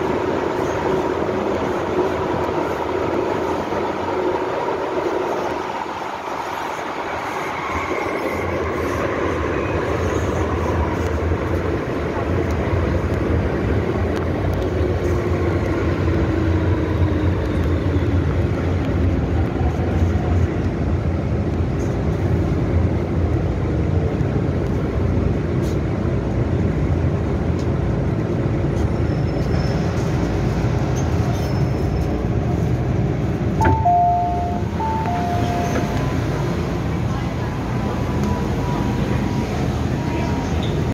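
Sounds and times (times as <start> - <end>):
train rumbling with whine: 0.0 - 40.9.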